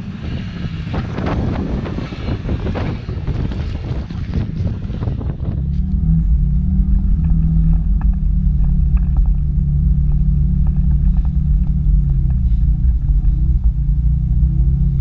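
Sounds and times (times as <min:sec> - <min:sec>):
car engine and exhaust running: 0:00.0 - 0:15.0.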